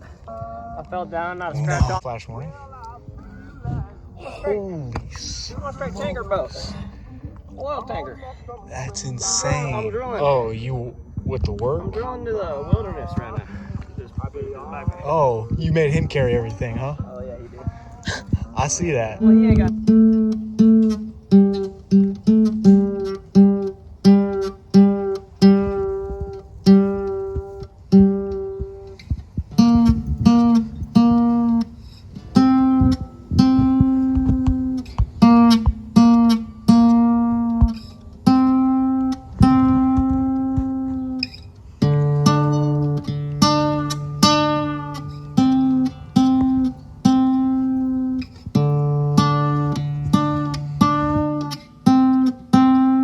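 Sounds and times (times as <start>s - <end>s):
acoustic guitar picking notes: 8.7s - 53.0s.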